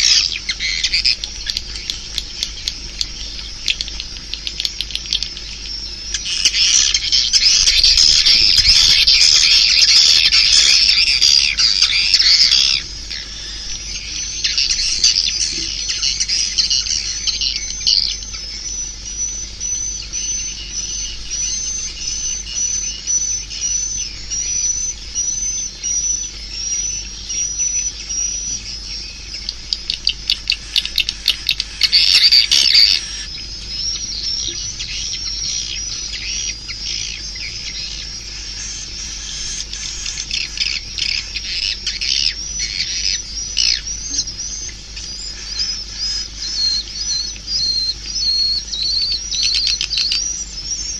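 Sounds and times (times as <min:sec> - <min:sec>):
high repeated bird chirps: 0:00.0 - 0:50.9
loud bird chattering: 0:00.0 - 0:50.9.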